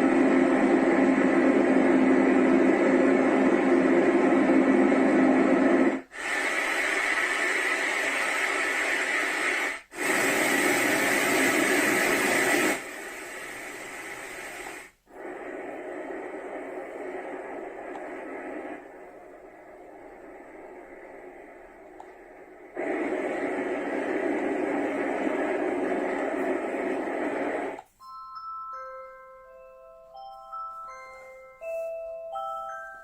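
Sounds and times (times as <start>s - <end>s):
sound machine white noise: 0.0s - 28.1s.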